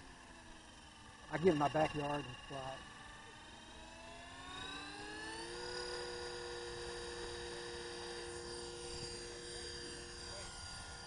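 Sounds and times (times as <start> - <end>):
electric helicopter motor whine: 0.0 - 11.0.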